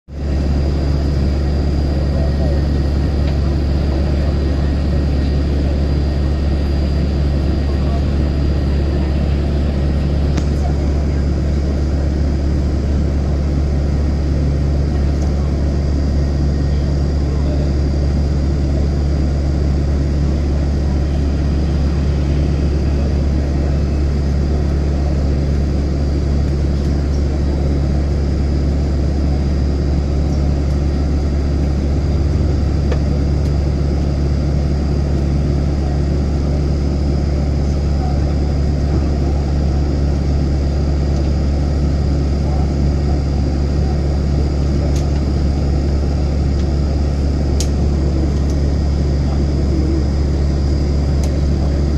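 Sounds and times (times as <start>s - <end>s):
airliner cabin engine rumble: 0.1s - 51.9s.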